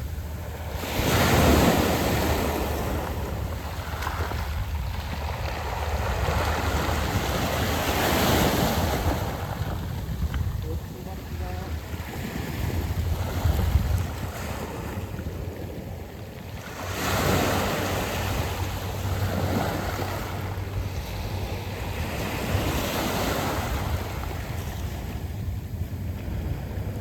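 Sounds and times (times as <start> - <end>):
wind rumble on microphone: 0.0 - 27.0
waves washing onto pebble beach: 0.4 - 25.3.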